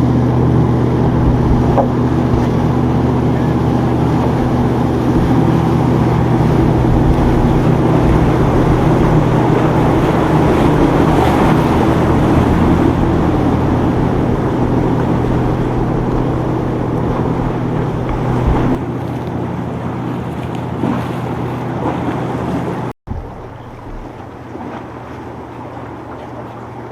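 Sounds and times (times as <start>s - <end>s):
motorboat engines running: 0.0s - 26.9s
water rushing: 0.0s - 26.9s
wind: 0.0s - 26.9s.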